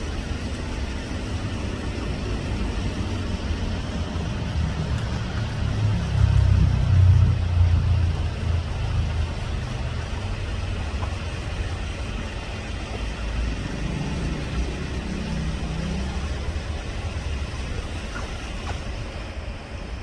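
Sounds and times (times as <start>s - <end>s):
engine passing: 0.0s - 20.0s
low rumble of road traffic: 0.0s - 20.0s.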